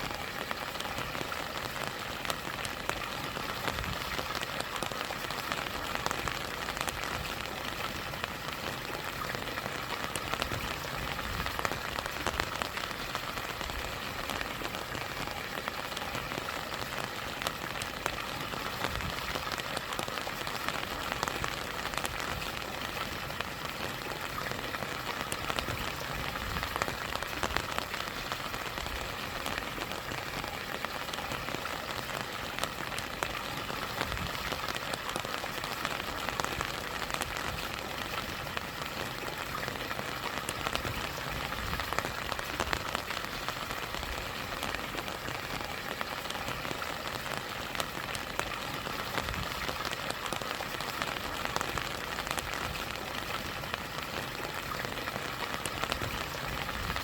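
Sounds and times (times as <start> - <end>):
steady rain: 0.0 - 57.0
stream and small waterfall: 0.0 - 57.0.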